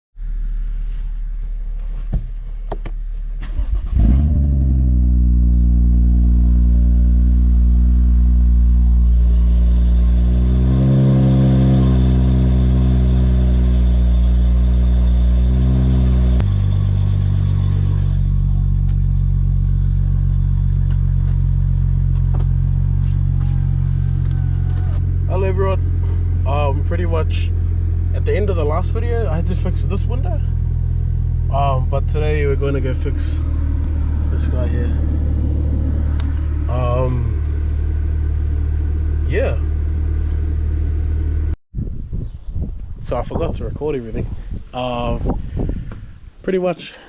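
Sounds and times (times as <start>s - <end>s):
car engine starting and idling: 0.2s - 41.6s.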